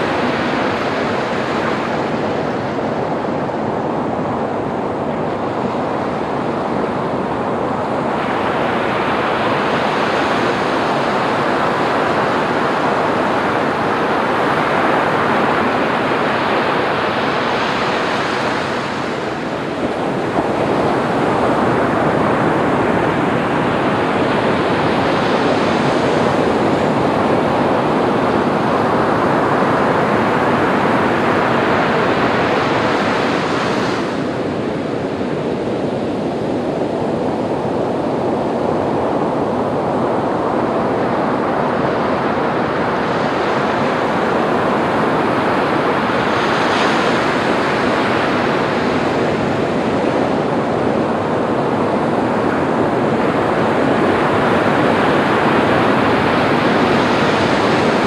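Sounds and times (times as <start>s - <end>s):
ocean waves on beach: 0.0s - 58.0s.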